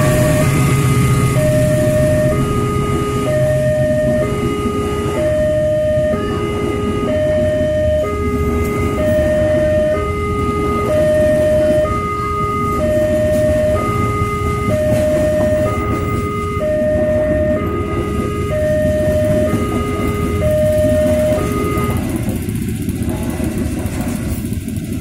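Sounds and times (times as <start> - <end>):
two-note warning alarm: 0.0 - 22.2
train rumbling on rails: 0.0 - 25.0.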